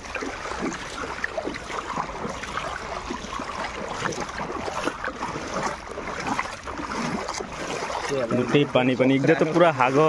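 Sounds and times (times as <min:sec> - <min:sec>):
water splashing and lapping: 0:00.0 - 0:10.0.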